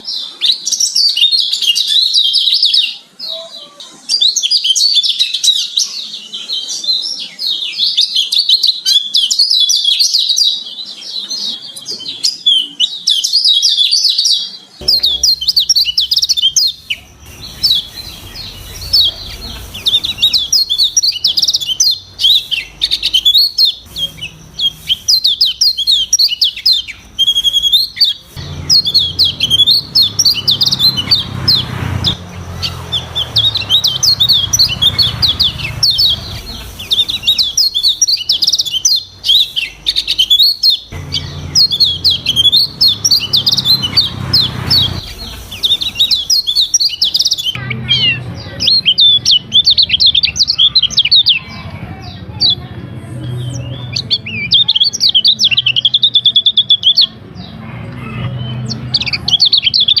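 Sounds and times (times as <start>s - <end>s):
bird twittering song: 4.1s - 51.4s, 53.2s - 60.0s.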